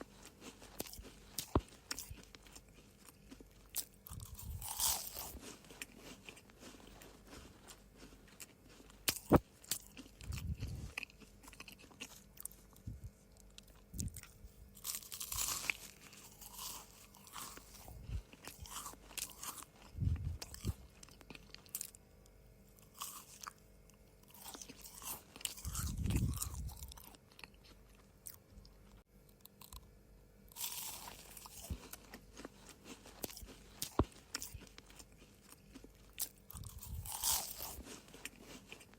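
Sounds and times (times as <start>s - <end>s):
crunching and chewing cookies: 0.0s - 38.9s.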